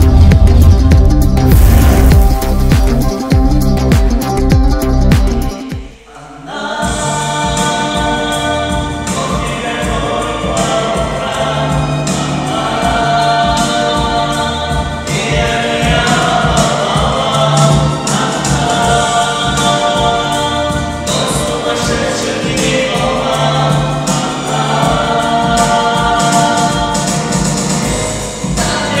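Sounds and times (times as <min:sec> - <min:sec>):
instrumental backing track: 0:00.0 - 0:06.1, 0:06.8 - 0:29.0
person singing: 0:00.0 - 0:27.8, 0:28.4 - 0:29.0.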